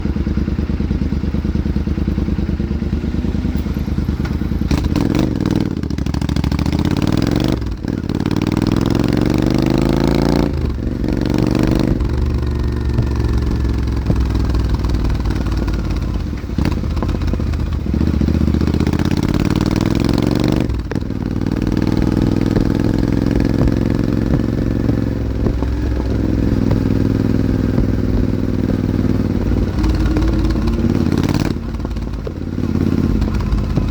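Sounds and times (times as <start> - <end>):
motorcycle engine accelerating: 0.0 - 33.9.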